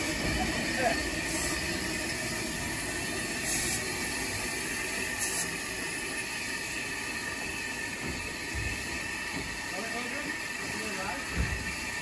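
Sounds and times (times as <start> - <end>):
sharp steam hisses: 0.0 - 12.0
steam hissing: 0.0 - 12.0.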